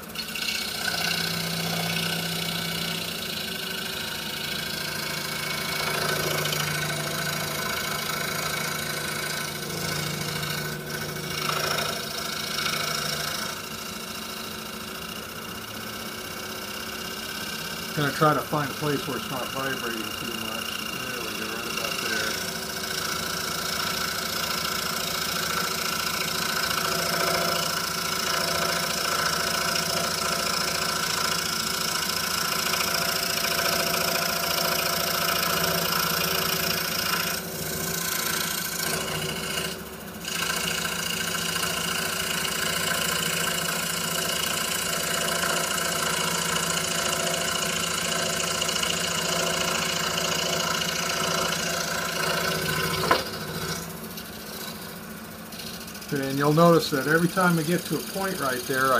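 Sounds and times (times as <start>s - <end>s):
scroll saw cutting plywood: 0.0s - 58.9s.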